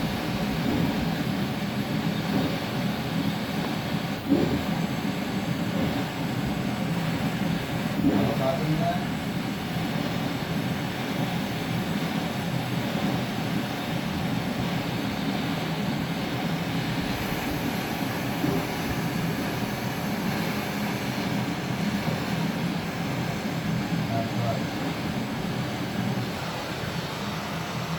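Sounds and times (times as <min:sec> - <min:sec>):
steady mechanical running noise: 0:00.0 - 0:27.9.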